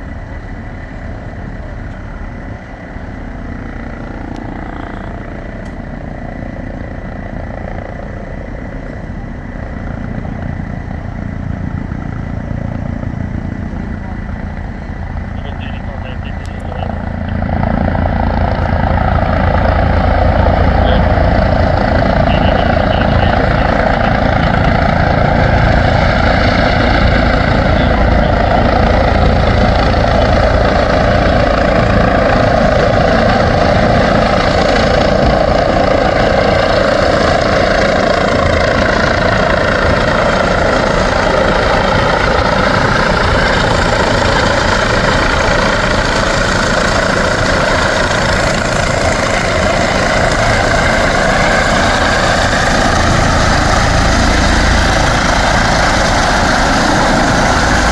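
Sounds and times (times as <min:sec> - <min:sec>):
helicopter rotor and turbine: 0:00.0 - 0:57.9.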